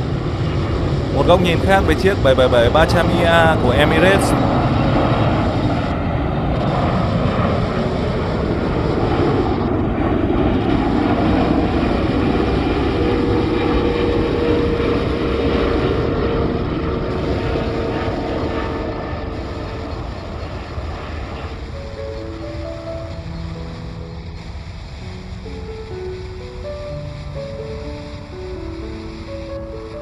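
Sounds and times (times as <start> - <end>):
faint steady whine: 0.0 - 30.0
jet engine rumble and hiss: 0.0 - 30.0.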